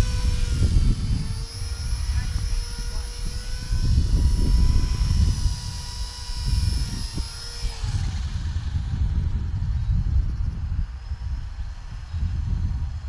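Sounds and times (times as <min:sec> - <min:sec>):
rc helicopter motor whine: 0:00.0 - 0:13.0
wind buffeting microphone: 0:00.0 - 0:13.0.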